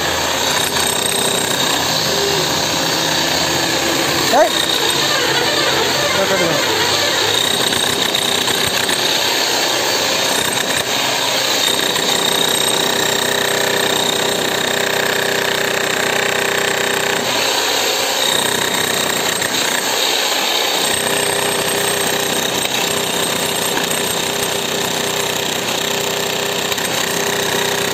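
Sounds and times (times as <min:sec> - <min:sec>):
demolition hammer chiselling concrete: 0:00.0 - 0:27.9.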